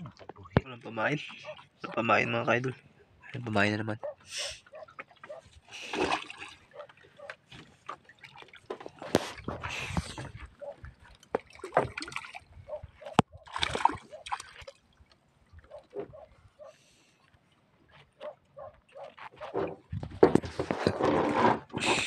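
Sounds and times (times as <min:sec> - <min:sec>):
water splashing and sloshing: 0:00.0 - 0:02.9, 0:04.0 - 0:22.0.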